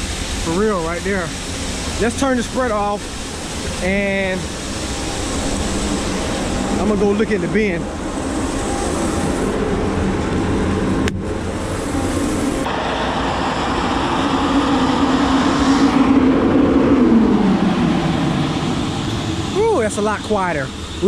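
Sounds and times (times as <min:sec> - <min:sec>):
grain bin machinery running: 0:00.0 - 0:21.0
motor hum winding down: 0:00.0 - 0:21.0.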